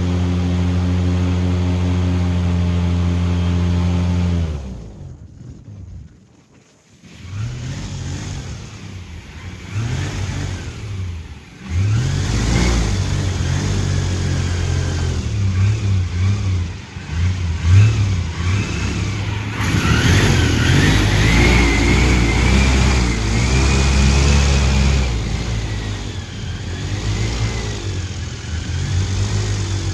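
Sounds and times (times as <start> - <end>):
airboat engine and propeller revving: 0.0 - 6.1, 6.9 - 29.9.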